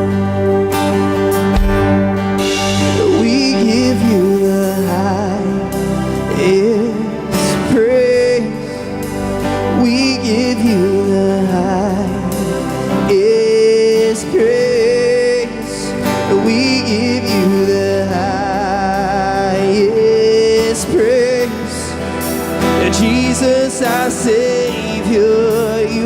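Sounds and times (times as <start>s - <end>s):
live band music: 0.0s - 26.0s.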